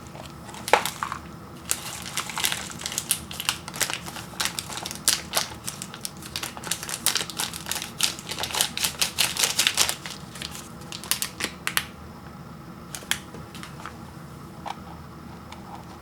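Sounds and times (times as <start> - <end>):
plastic packaging crinkling: 0.0 - 11.9, 12.9 - 14.0.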